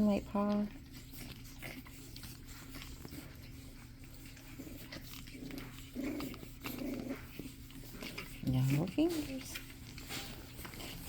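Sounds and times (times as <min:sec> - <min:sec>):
puppies playing clicks and rustles: 0:00.0 - 0:11.0.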